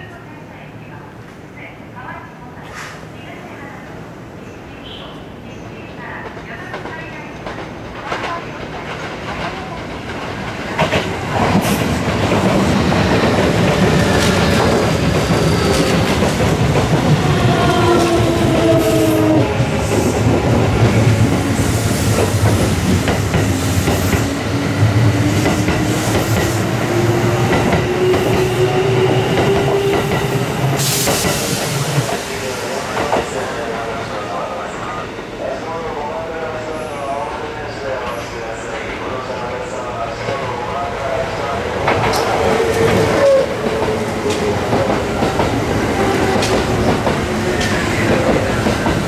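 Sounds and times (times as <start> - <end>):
electric trains rumbling past: 2.5 - 49.0.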